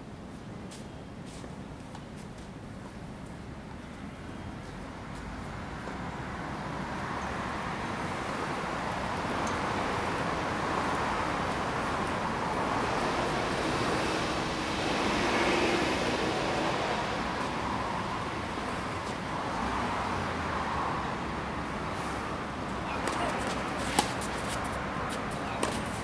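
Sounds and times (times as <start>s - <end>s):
distant road traffic hum: 0.0s - 26.0s.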